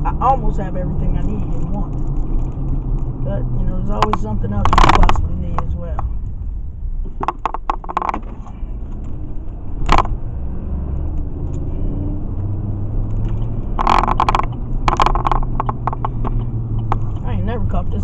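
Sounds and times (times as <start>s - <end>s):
car driving low rumble: 0.0s - 18.0s.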